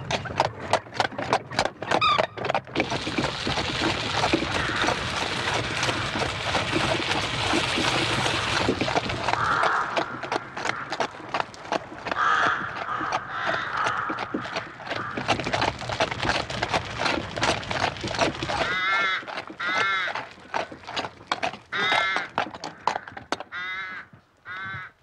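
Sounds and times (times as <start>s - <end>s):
carriage wheels rumbling: 0.0s - 23.5s
horse hooves clopping on road: 0.0s - 24.9s.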